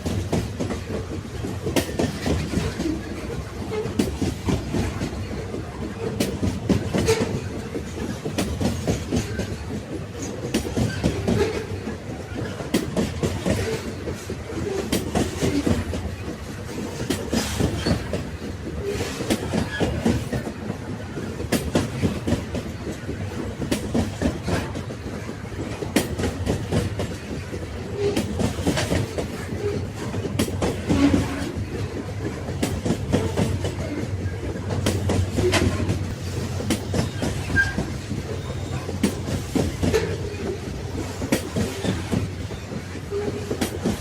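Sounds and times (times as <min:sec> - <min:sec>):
clickety-clack at rail joints: 0:00.0 - 0:44.0
train wheels rumbling on rails: 0:00.0 - 0:44.0.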